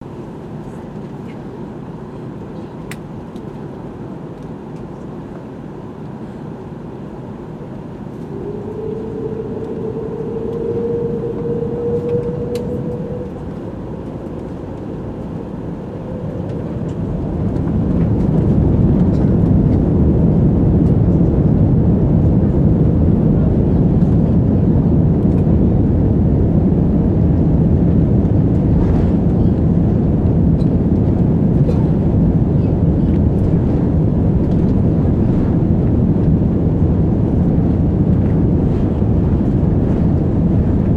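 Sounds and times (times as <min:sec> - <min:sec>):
jet engine cabin rumble: 0:00.0 - 0:40.9
rising engine whine: 0:07.0 - 0:40.9.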